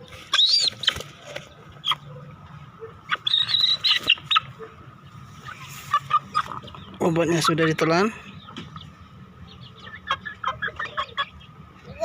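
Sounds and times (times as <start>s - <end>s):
chicken squawking: 0.0s - 4.8s, 5.4s - 8.1s, 9.8s - 12.0s.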